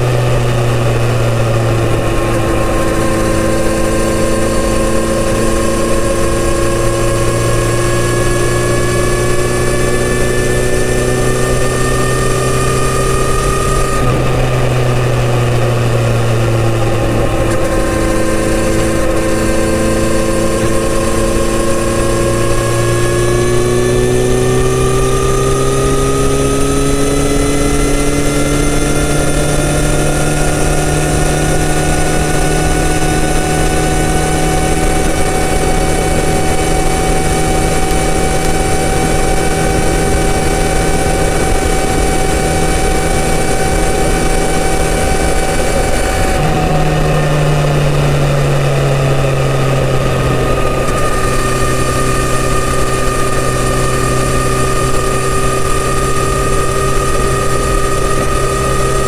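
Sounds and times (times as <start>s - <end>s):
low rush of wind: 0.0s - 59.0s
motorcycle engine cruising: 0.0s - 59.0s.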